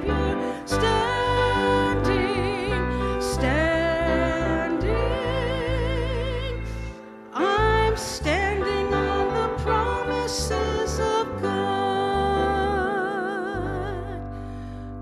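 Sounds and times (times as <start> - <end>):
woman singing into a microphone: 0.0 - 14.5.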